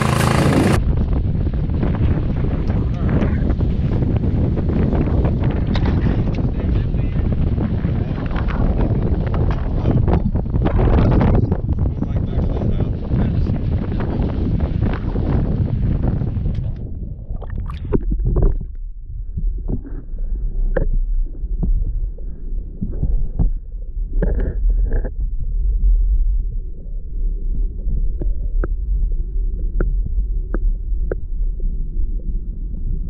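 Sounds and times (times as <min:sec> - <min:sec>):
muffled underwater rumble: 0:00.0 - 0:33.0.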